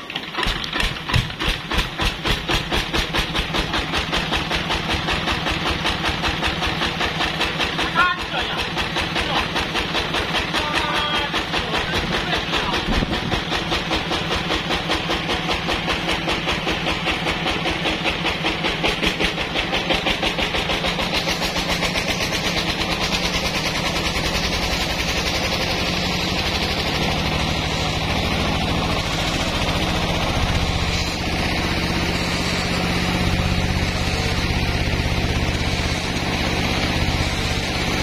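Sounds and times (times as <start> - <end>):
diesel engine thumping: 0.0 - 38.0
band saw cutting log: 0.1 - 38.0.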